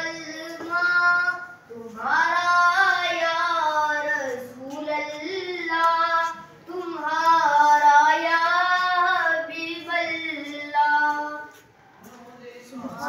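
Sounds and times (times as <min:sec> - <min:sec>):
boy singing unaccompanied: 0:00.0 - 0:13.0.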